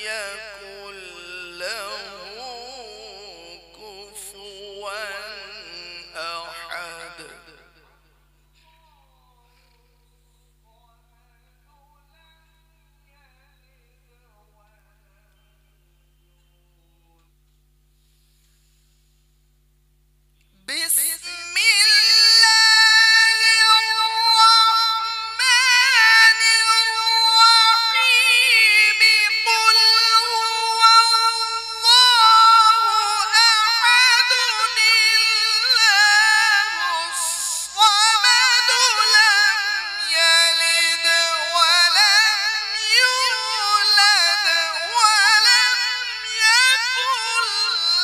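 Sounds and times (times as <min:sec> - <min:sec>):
man chanting in high voice: 0:00.0 - 0:10.0, 0:10.6 - 0:17.3, 0:20.6 - 0:48.0.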